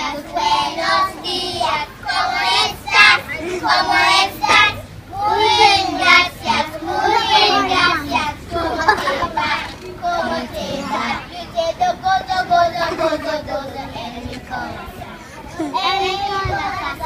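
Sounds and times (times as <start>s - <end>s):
young children singing: 0.0s - 17.0s.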